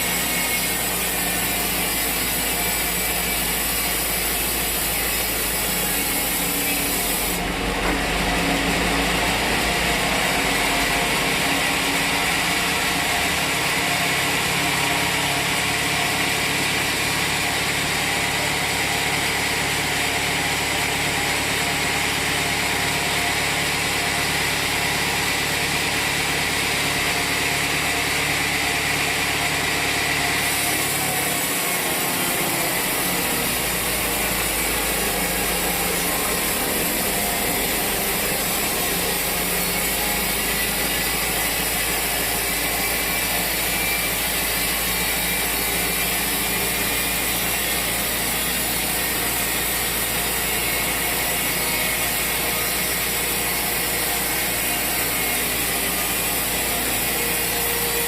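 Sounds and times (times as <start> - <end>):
sawmill saw droning and hissing: 0.0 - 58.0.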